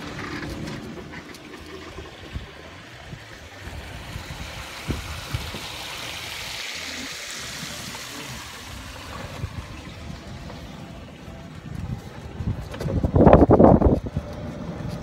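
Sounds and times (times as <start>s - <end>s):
wind rumble on microphone: 0.0s - 6.0s, 7.6s - 15.0s
tyres hissing on road: 0.0s - 12.5s.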